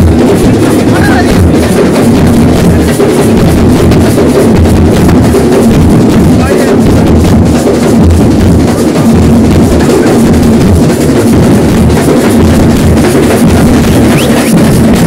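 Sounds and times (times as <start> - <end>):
bass drums beating loudly: 0.0 - 15.0.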